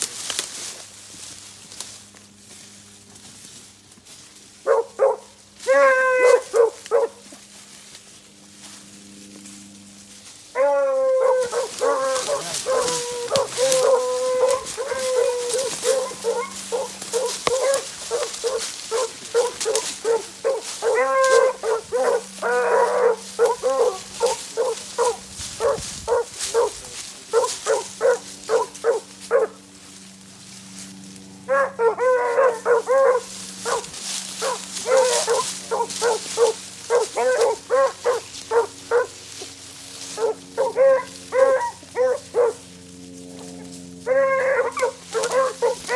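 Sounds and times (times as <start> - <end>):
hounds barking: 4.6 - 7.5, 10.4 - 29.9, 31.3 - 45.9.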